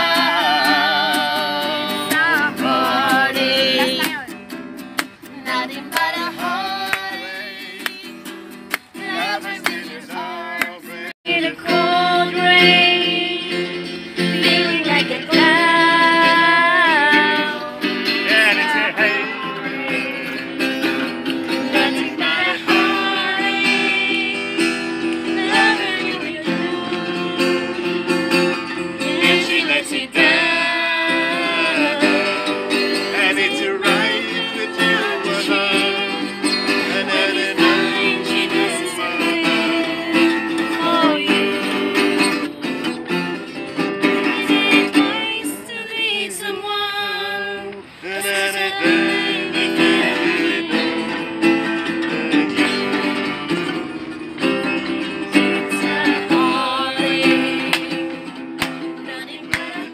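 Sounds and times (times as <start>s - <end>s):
person singing: 0.0s - 4.3s, 9.0s - 43.0s, 44.0s - 58.3s, 59.0s - 59.9s
acoustic guitar: 0.0s - 59.9s.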